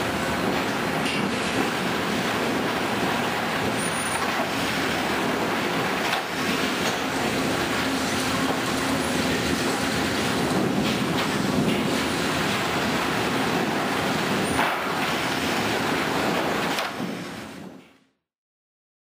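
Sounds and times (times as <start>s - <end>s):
boards and steel knocking: 0.0s - 17.2s
mill machinery running: 0.0s - 17.8s.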